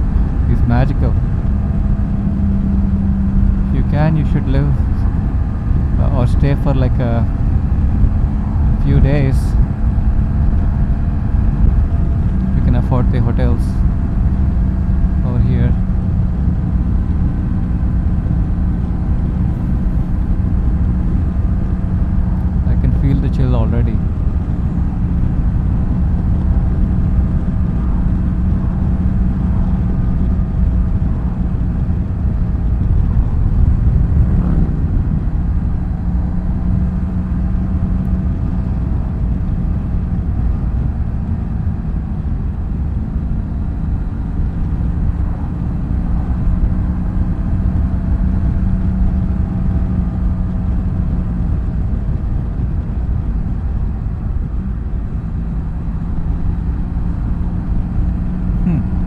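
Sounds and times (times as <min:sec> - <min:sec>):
motorcycle engine cruising: 0:00.0 - 0:59.0
road rumble: 0:00.0 - 0:59.0
wind: 0:00.0 - 0:59.0.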